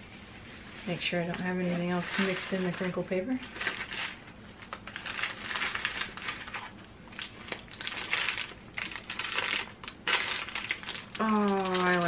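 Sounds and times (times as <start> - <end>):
shredded paper rustling: 0.0 - 12.0.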